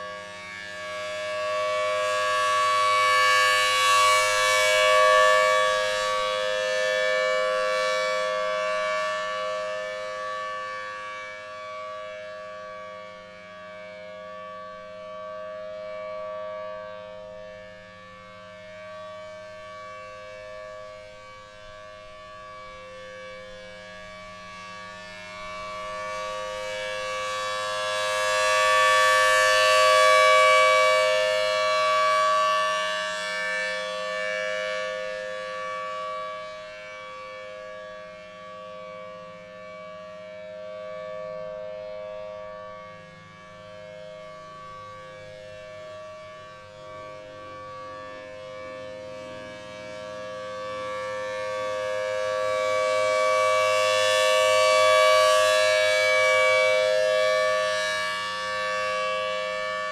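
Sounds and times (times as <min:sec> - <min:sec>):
siren steady tone: 0:00.0 - 0:59.9.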